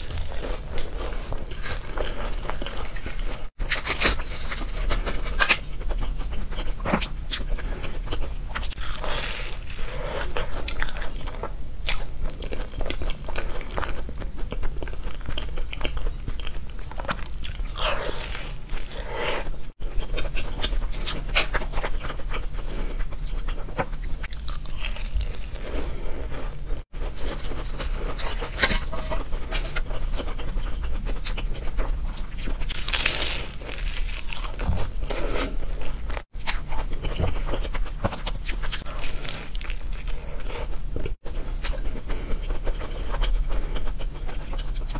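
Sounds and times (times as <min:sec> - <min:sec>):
crisp pastry crackling: 0:00.0 - 0:06.7, 0:08.6 - 0:22.3, 0:26.5 - 0:43.4
biting and chewing pastry: 0:00.0 - 0:44.9.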